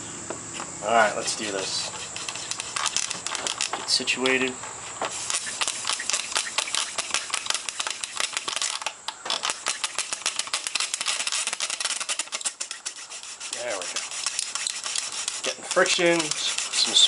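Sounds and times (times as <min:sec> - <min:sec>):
wooden spindle rasping on fireboard: 0:00.9 - 0:17.0.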